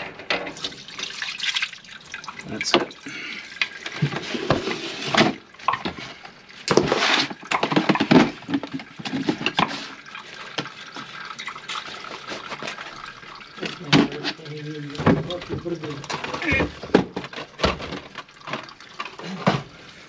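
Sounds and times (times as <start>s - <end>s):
water sloshing in a sink drain: 0.5s - 20.0s.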